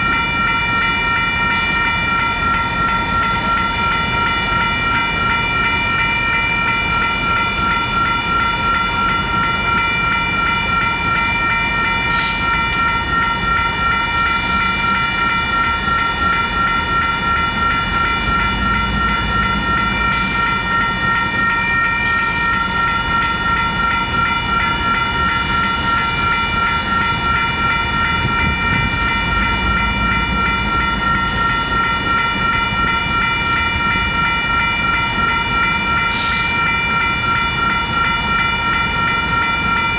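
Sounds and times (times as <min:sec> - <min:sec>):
high-pitched multi-tone ringing: 0:00.0 - 0:39.9
train rumbling past: 0:00.0 - 0:39.9.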